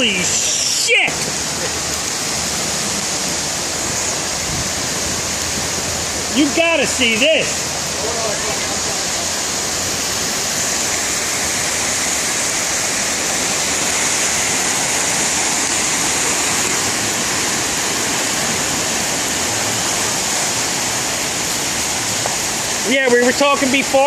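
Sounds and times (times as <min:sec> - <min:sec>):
heavy rain downpour: 0:00.0 - 0:24.0.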